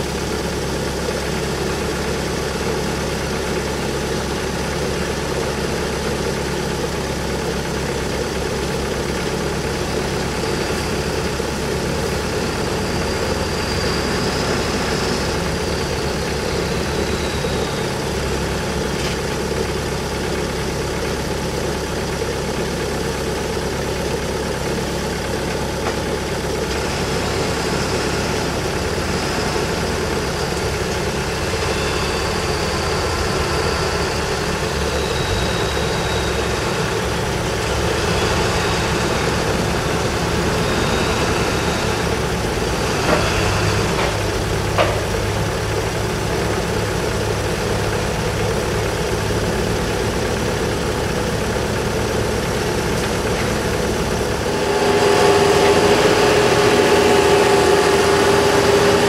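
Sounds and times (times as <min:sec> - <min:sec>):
skid-steer loader engine running: 0:00.0 - 0:59.0.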